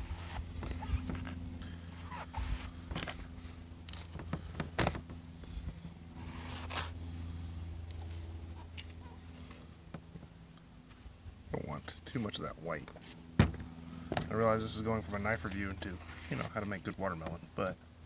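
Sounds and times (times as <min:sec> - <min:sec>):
low hum: 0:00.0 - 0:16.5.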